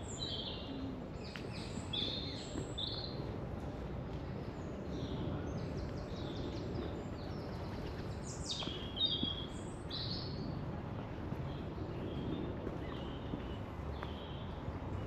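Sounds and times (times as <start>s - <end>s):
songbirds calling: 0.0s - 3.2s, 4.4s - 10.5s, 11.3s - 15.0s.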